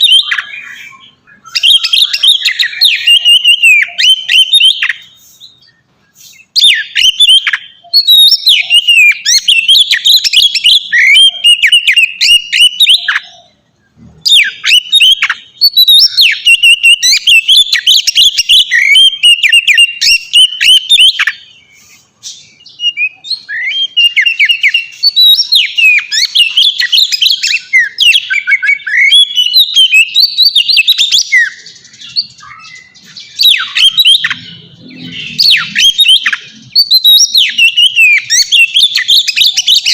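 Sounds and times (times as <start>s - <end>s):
bird singing varied whistling song: 0.0s - 39.9s.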